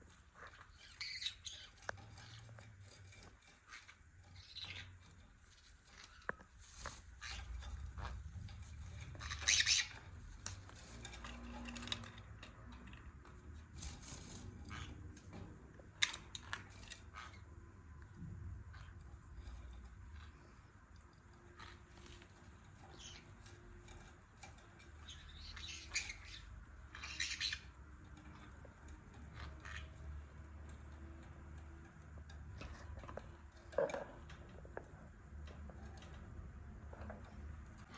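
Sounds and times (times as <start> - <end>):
parrots chirping and squawking: 0.1 - 17.9, 18.7 - 37.9.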